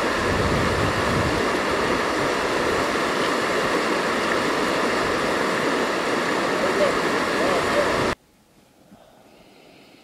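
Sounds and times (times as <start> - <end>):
river rushing: 0.0 - 8.2.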